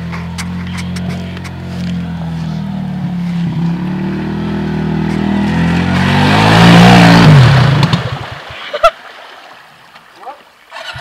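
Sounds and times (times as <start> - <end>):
atv engine revving in mud: 0.0 - 8.6, 10.7 - 11.0.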